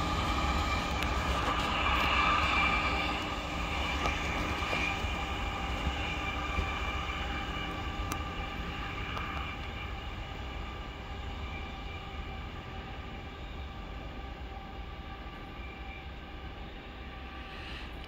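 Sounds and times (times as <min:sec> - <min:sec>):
freight train rumbling on rails: 0:00.0 - 0:18.0
high whine: 0:00.0 - 0:18.0.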